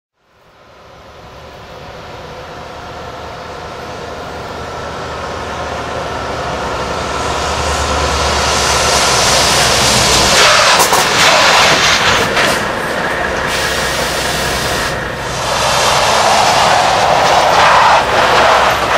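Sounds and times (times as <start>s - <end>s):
truck diesel engine approaching: 0.2s - 18.9s.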